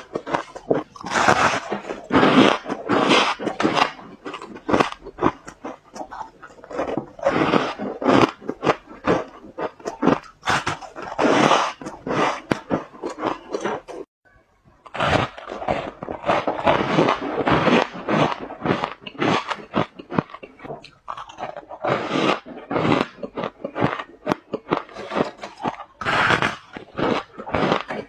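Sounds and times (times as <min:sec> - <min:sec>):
ice cubes crunched between teeth: 0:00.0 - 0:14.1, 0:14.8 - 0:28.0.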